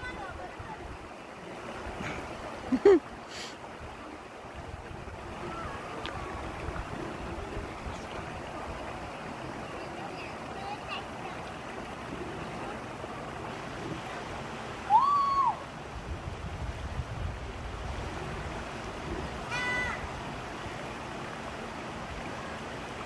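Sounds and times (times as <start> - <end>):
stream water running over rocks: 0.0 - 23.0.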